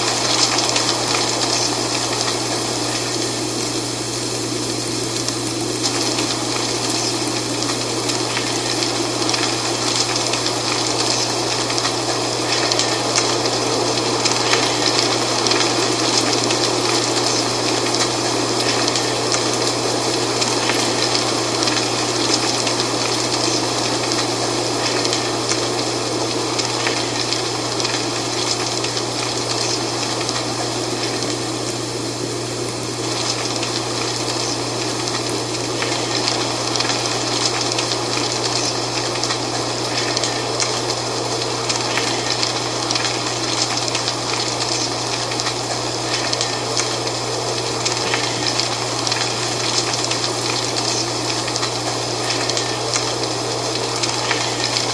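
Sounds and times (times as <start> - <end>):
dry leaves rustling in wind: 0.0 - 54.9.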